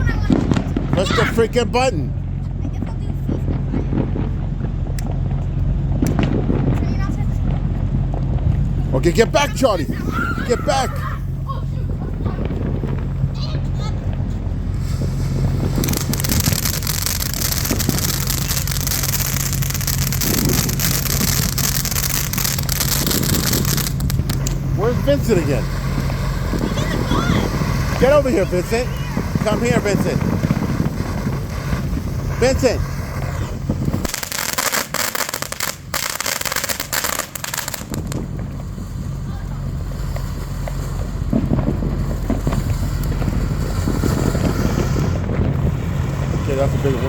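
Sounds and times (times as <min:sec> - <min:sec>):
firework hissing and crackling: 0:00.0 - 0:47.0.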